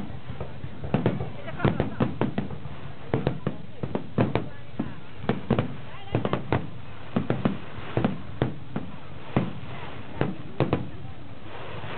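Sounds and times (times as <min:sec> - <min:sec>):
fireworks bursting with sharp bangs: 0:00.0 - 0:11.9
steady background hiss: 0:00.0 - 0:11.9.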